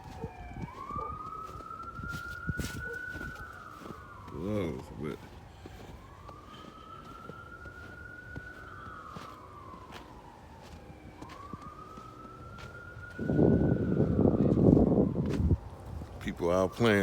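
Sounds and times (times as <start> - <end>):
distant siren wailing: 0.0 - 17.0.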